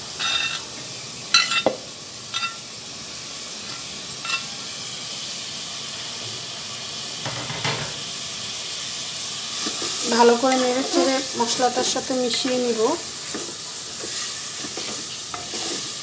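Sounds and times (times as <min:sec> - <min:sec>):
paste sizzling in oil: 0:00.0 - 0:16.0.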